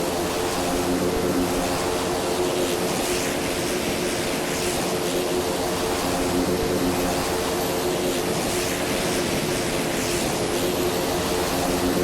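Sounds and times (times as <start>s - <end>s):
aircraft propeller engine drone: 0.0s - 12.0s.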